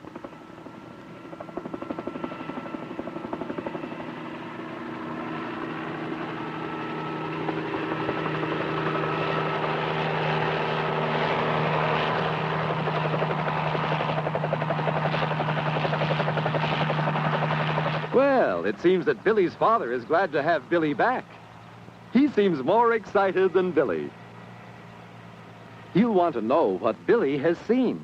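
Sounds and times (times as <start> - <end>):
helicopter rotor chop and engine whine: 0.0 - 28.0.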